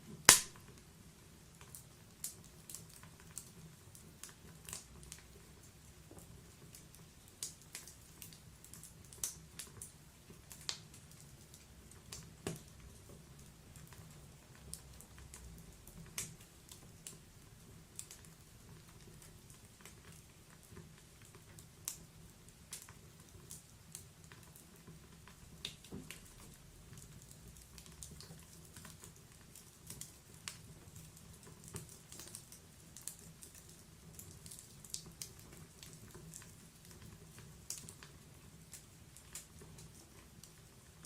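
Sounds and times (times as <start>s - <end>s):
logs crackling and popping: 0.0s - 41.0s.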